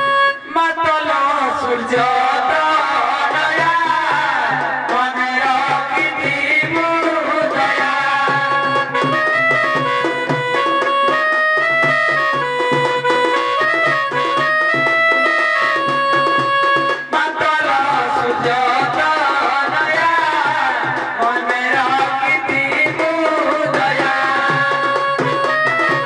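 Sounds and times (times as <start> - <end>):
person singing: 0.0 - 9.8, 13.2 - 26.0
hand drums: 1.8 - 26.0.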